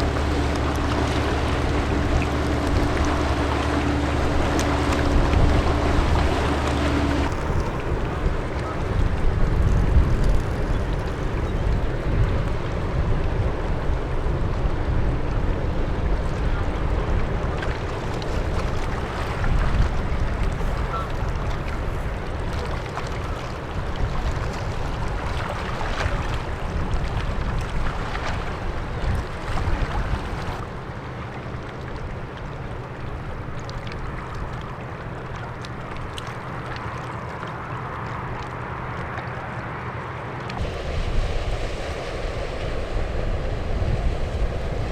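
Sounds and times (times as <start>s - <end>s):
ship engine rumble: 0.0s - 44.9s
wind buffeting microphone: 0.0s - 44.9s.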